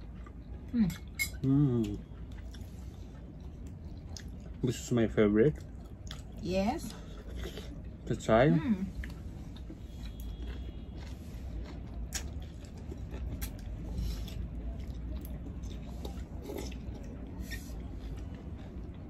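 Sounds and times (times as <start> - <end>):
people chewing noodles: 0.0 - 19.0
steady low hum: 0.0 - 19.0.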